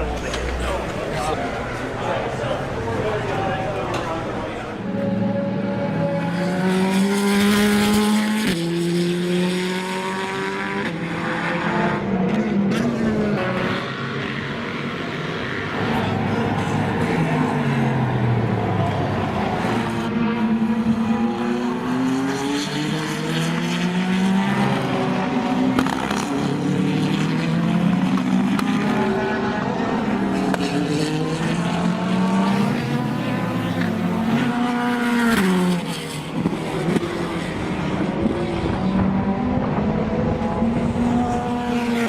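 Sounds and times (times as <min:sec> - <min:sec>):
cars passing: 0:00.0 - 0:42.0
race car engine at full throttle: 0:00.0 - 0:42.0.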